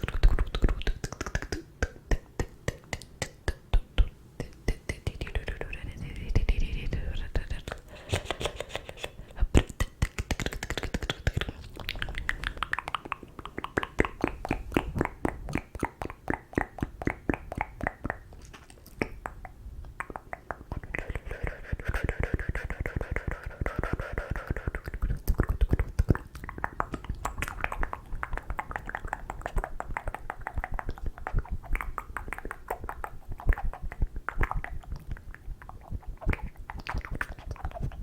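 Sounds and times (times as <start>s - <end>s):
wet lip and tongue clicks: 0.0s - 5.7s, 7.6s - 38.0s.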